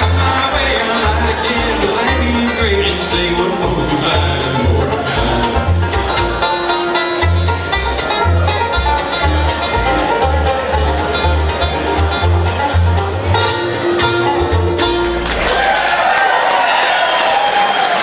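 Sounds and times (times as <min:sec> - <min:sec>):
fiddle: 0:00.0 - 0:15.4
guitar picking: 0:00.0 - 0:15.5
low bass notes: 0:00.0 - 0:15.7
banjo rolls: 0:00.0 - 0:17.7.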